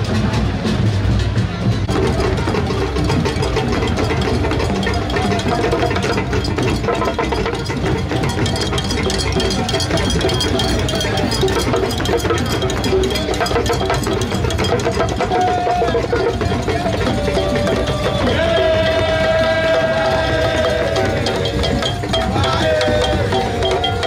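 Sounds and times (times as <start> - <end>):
crowd voices: 0.0 - 24.0
percussion strikes: 0.0 - 24.0.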